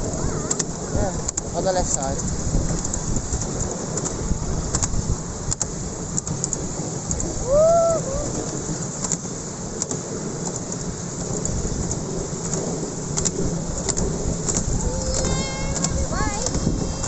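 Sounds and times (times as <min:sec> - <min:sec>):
railway carriage wheels rumbling: 0:00.0 - 0:17.0.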